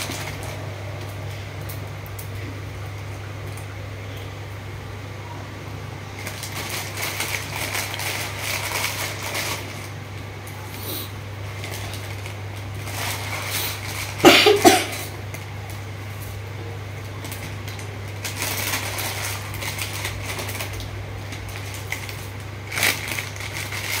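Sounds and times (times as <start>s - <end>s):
plastic packet crinkling: 0.0s - 2.6s, 6.0s - 24.0s
steady low hum: 0.0s - 24.0s.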